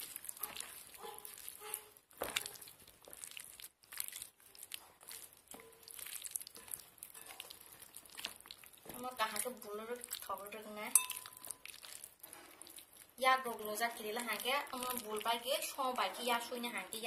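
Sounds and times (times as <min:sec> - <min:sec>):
hand squelching chicken in marinade: 0:00.0 - 0:15.6.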